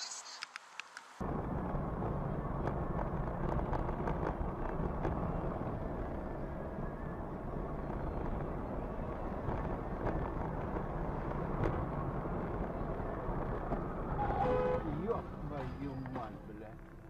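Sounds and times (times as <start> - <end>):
vehicle rumbling: 0.0 - 17.0.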